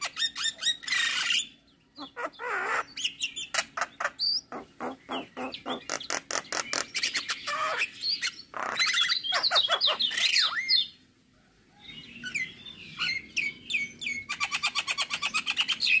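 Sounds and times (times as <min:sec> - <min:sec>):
myna bird singing: 0:00.0 - 0:16.0.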